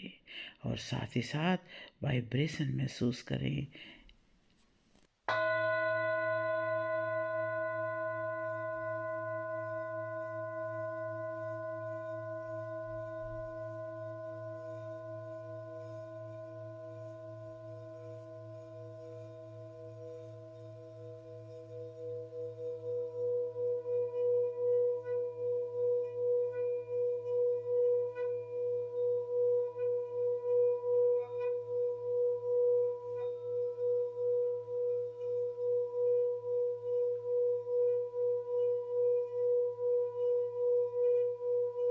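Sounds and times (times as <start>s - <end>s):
singing bowl ringing: 5.3s - 41.9s.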